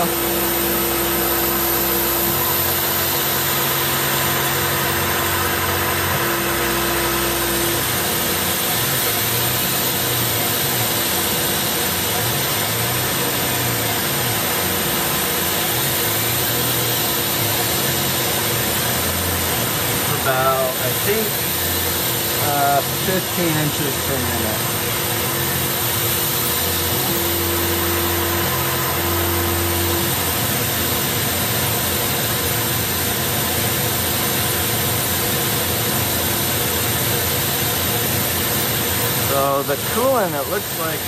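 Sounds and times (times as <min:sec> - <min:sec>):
air-blast coolant mister hiss: 0:00.0 - 0:41.0
milling machine spindle cutting metal: 0:00.0 - 0:41.0
steady hum: 0:00.0 - 0:41.0.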